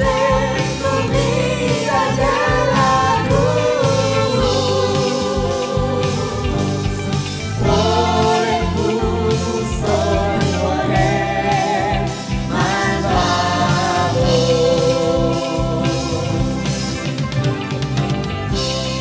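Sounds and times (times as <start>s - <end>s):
church choir singing a hymn: 0.0s - 17.0s
keyboard accompaniment: 0.0s - 19.0s.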